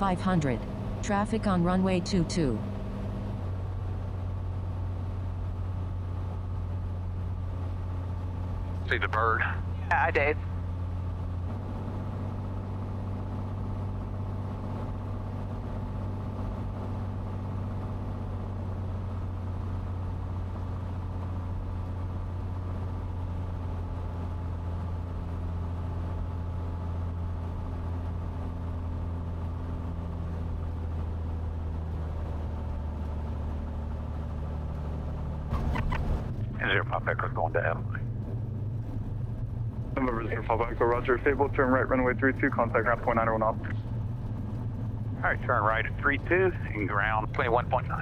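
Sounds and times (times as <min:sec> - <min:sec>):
propeller plane engine droning: 0:00.0 - 0:48.0.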